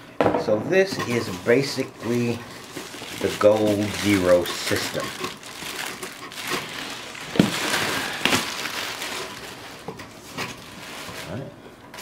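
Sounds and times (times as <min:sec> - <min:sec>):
plastic wrapping crinkling: 0:01.1 - 0:12.0.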